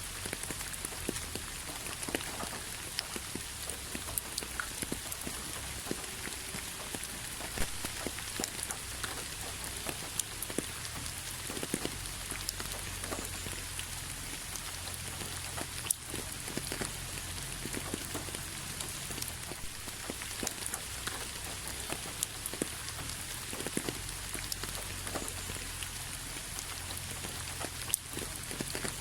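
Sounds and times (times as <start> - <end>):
raindrops ticking and tapping: 0.0 - 29.0
steady rain: 0.0 - 29.0.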